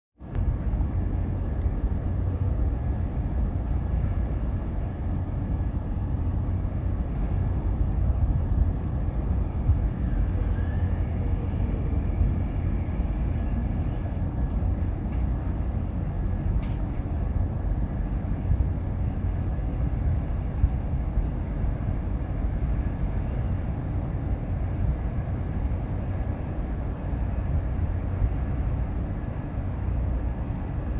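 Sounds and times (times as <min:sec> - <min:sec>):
low rumble of harbour ambience: 0:00.2 - 0:30.9.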